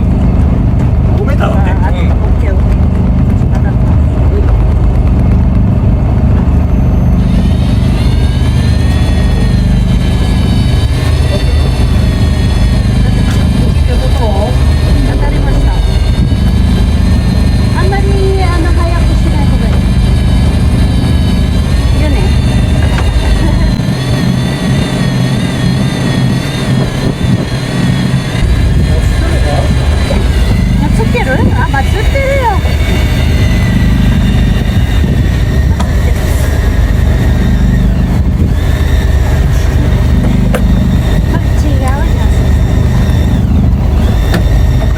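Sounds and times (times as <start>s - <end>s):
engine rumbling with high whine: 0.0s - 44.9s.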